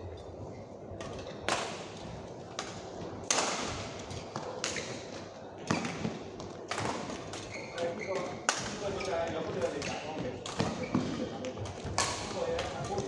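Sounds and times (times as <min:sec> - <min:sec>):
rackets hitting shuttlecock: 0:01.0 - 0:07.6, 0:08.4 - 0:08.9, 0:09.6 - 0:13.0.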